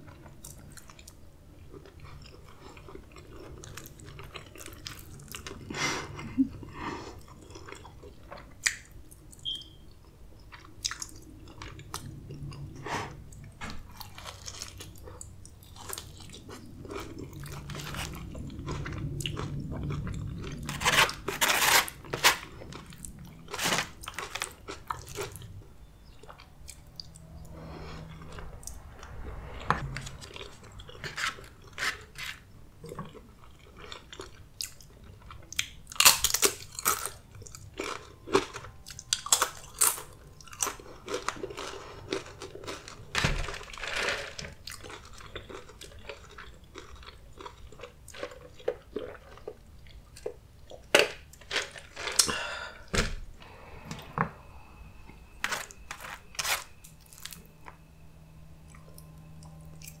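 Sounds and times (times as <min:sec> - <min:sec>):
chewing soft saucy food: 0:00.0 - 0:43.1, 0:43.8 - 0:52.7, 0:58.6 - 1:00.0.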